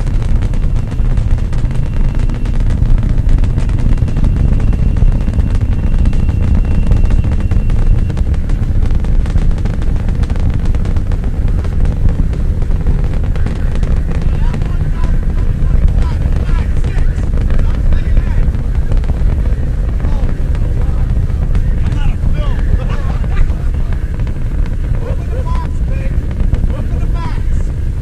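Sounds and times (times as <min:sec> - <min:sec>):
rocket engines crackling: 0:00.0 - 0:28.0
rocket engines rumbling: 0:00.0 - 0:28.0.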